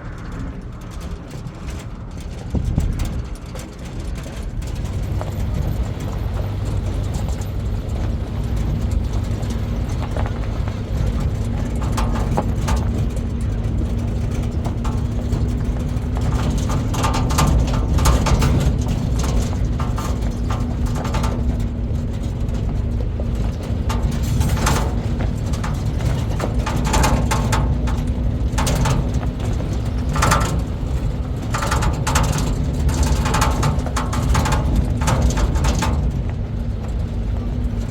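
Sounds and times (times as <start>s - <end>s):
engine running with low rumble: 0.0s - 37.9s.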